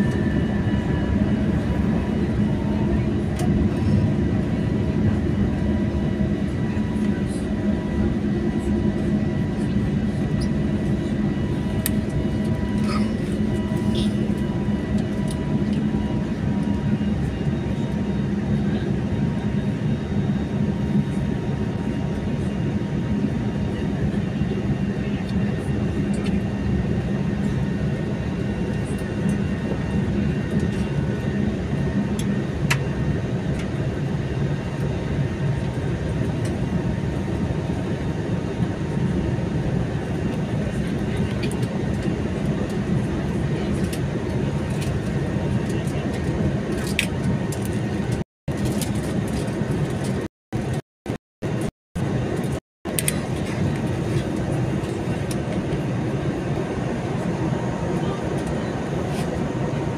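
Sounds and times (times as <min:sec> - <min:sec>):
airliner cabin engine drone: 0:00.0 - 0:50.8, 0:51.4 - 0:59.9.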